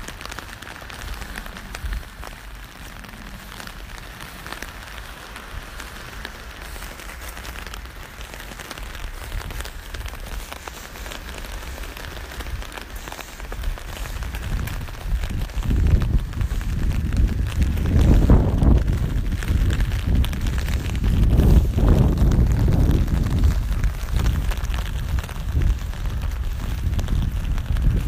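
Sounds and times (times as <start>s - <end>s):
low wind rumble on microphone: 0.0s - 28.0s
rain pattering on an umbrella: 0.0s - 28.0s.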